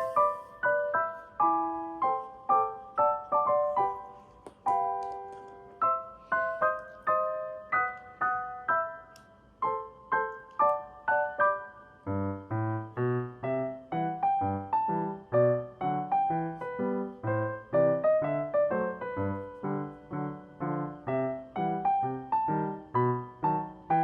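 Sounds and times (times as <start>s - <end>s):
gentle piano melody: 0.0s - 24.0s.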